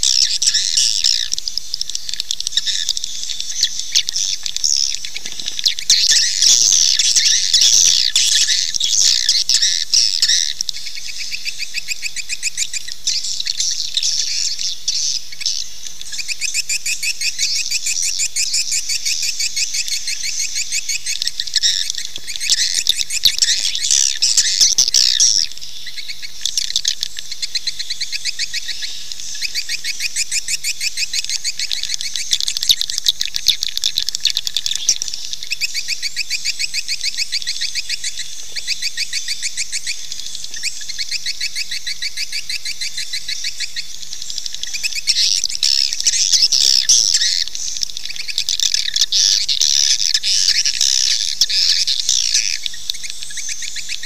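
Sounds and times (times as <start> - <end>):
high-pitched twittering chirps: 0.0 - 54.0.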